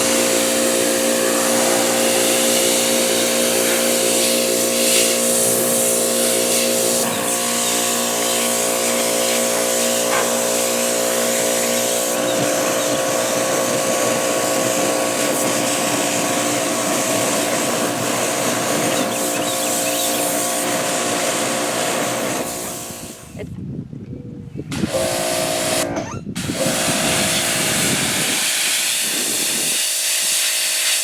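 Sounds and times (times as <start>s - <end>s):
water spray hissing: 0.0s - 23.2s, 26.5s - 31.0s
pressure washer motor hum: 0.0s - 23.4s, 24.7s - 31.0s.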